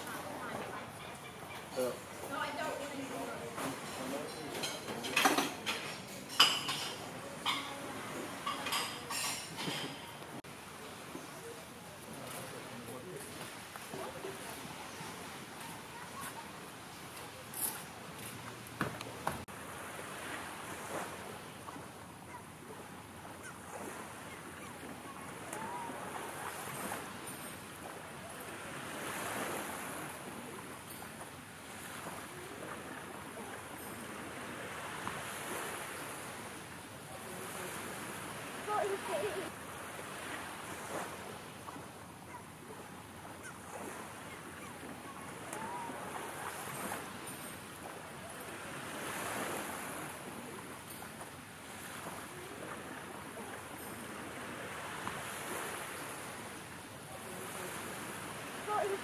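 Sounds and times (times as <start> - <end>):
sea surf breaking on beach: 0.0 - 1.0, 6.9 - 59.0.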